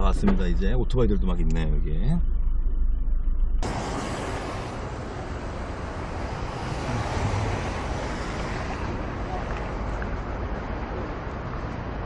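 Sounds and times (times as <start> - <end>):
in-car sound: 0.0 - 10.4
traffic rumble: 0.0 - 12.0.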